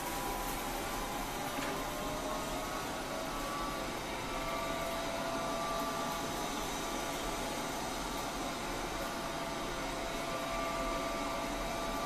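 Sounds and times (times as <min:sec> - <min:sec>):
robot vacuum cleaner running: 0:00.0 - 0:12.0.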